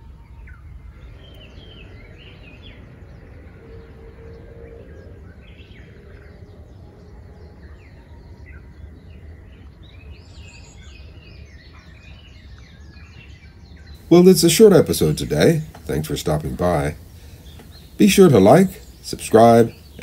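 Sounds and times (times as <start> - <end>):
low outdoor rumble: 0.0 - 20.0
wild birds chirping: 0.0 - 20.0.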